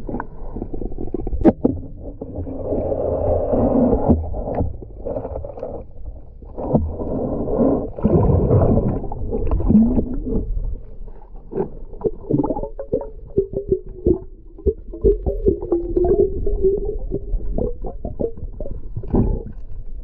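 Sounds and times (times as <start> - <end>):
rushing water and bubbles underwater: 0.0 - 20.0.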